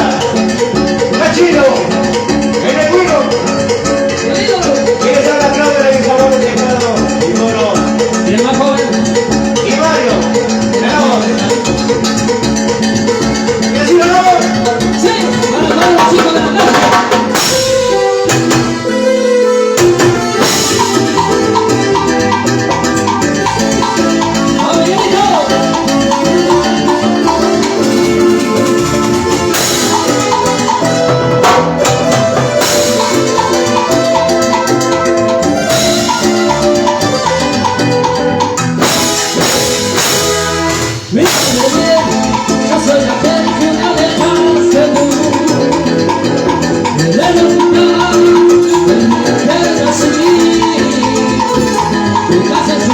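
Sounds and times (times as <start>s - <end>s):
latin dance music: 0.0s - 52.9s.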